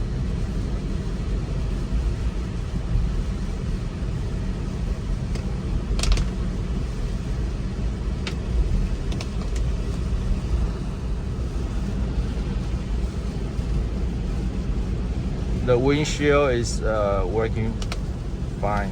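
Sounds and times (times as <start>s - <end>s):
road and tyre rumble: 0.0s - 18.9s.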